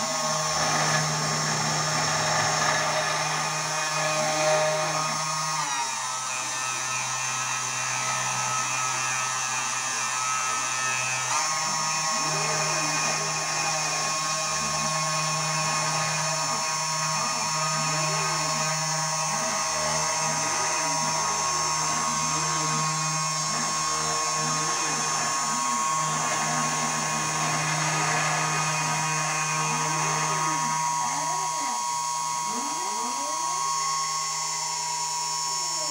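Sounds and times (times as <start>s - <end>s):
spindle motor whine: 0.0s - 35.9s
stepper motors whirring: 0.0s - 35.9s.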